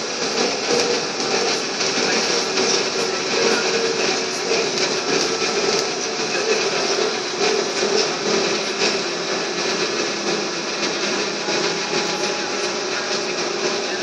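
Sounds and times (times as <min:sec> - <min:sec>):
trolleybus drive and tyres: 0:00.0 - 0:14.0.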